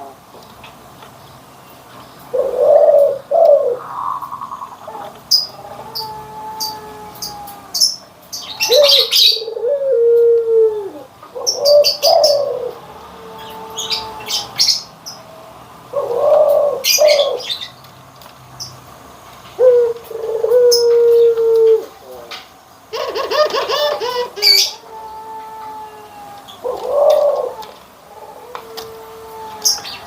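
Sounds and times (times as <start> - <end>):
small birds chirping: 0.0 - 9.8, 10.7 - 30.0
dove cooing: 2.3 - 17.7, 19.6 - 22.3, 22.9 - 30.0.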